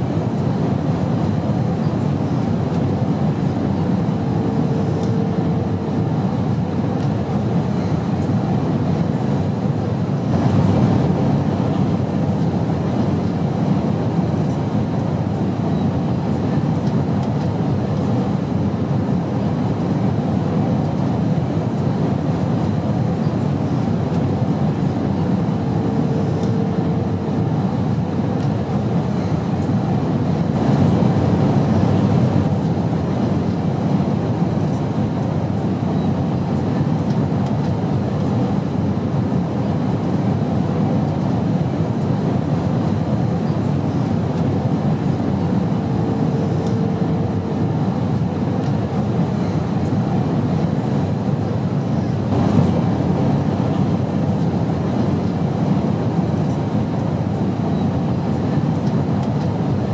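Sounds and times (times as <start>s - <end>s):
airplane low rumble: 0.0s - 59.9s.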